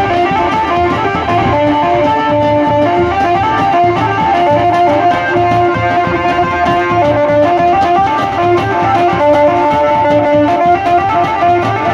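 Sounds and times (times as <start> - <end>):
plucked-string melody: 0.0 - 11.9
steady drum beat: 0.0 - 11.9.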